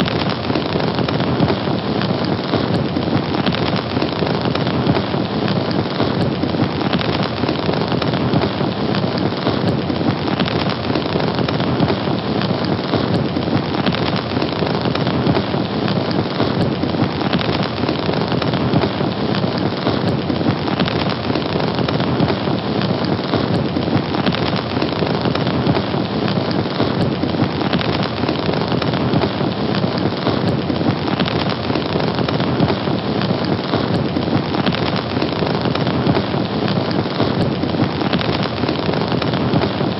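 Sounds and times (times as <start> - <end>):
fire burning: 0.0 - 39.9.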